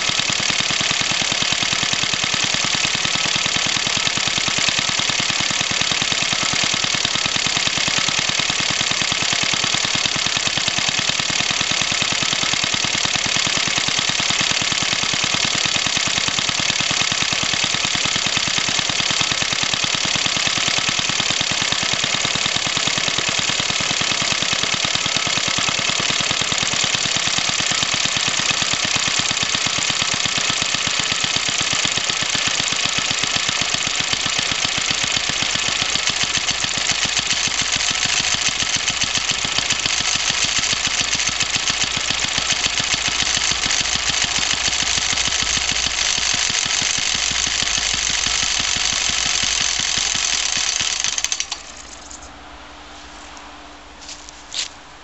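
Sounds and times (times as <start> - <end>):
two-stroke engine running: 0.0 - 52.2.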